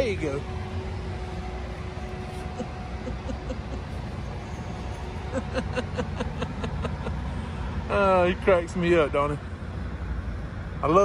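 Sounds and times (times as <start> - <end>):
faint steady hum: 0.0 - 11.0
idling engine rumble: 0.0 - 11.0.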